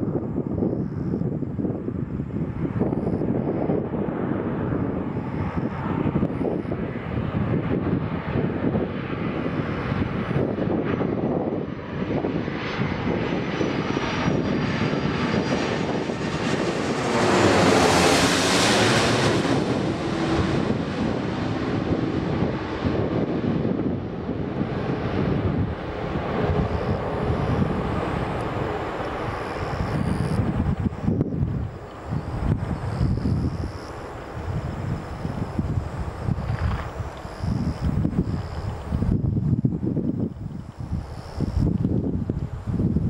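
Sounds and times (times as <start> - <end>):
jet airliner passing overhead: 0.0 - 43.0.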